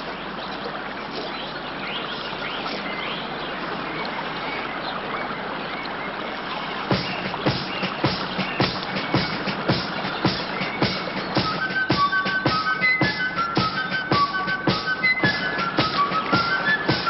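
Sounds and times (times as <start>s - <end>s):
birds calling: 0.0s - 17.0s
river water rushing: 0.0s - 17.0s.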